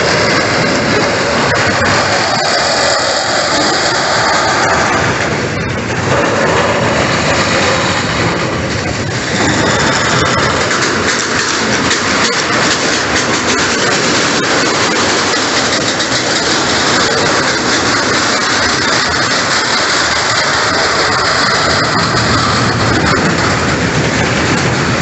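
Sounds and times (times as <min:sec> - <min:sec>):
clicks over rail joints: 0:00.0 - 0:25.0
freight wagons rumbling on track: 0:00.0 - 0:25.0.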